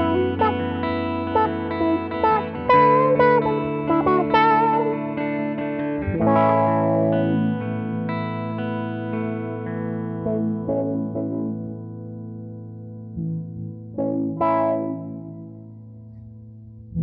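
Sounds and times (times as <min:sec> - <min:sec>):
electric guitars with envelope filter: 0:00.0 - 0:17.0.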